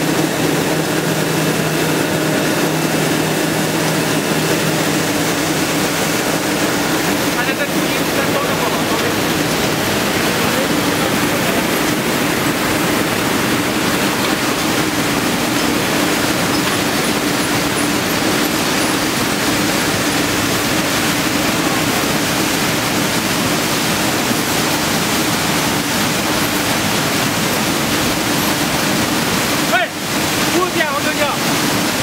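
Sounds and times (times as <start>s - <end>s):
machine rushing noise: 0.0s - 27.4s
motor hum: 0.0s - 29.6s.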